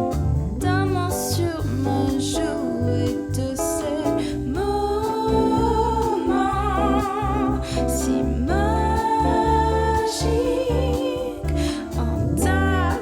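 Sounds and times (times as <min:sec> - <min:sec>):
pop love song with singing: 0:00.0 - 0:13.0
steady bass beat: 0:00.0 - 0:13.0.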